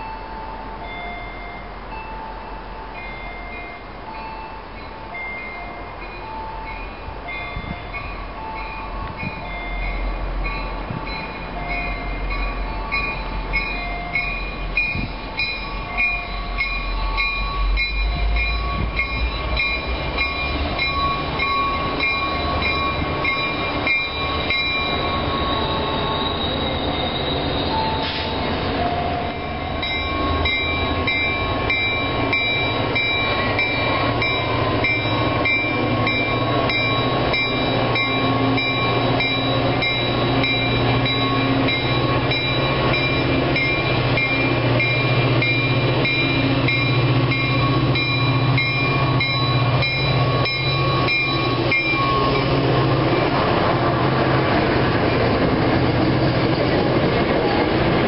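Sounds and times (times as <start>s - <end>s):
diesel train engine rumble: 0.0s - 58.0s
rail noise: 0.0s - 58.0s.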